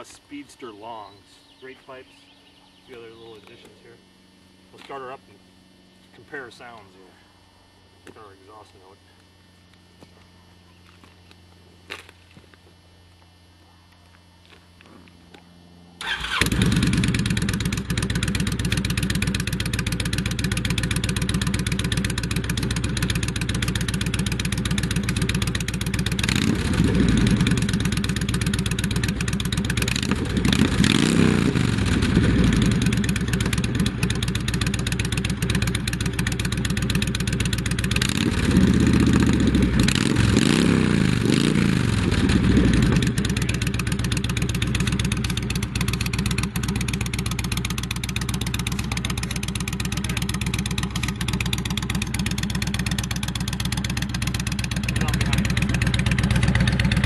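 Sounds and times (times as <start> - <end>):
motorcycle engine idling and revving: 7.8 - 57.0.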